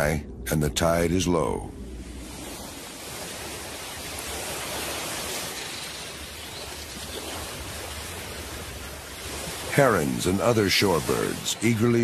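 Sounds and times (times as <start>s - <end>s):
surf washing on shore: 1.9s - 12.0s.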